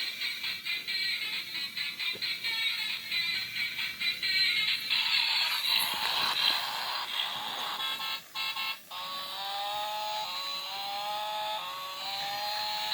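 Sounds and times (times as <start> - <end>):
toy car buzzing clatter: 0.2 - 12.9.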